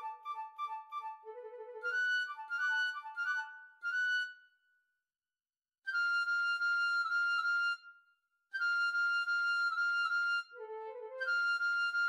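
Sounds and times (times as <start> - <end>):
piccolo and flute duet: 0.0 - 4.5, 5.9 - 7.9, 8.5 - 12.0.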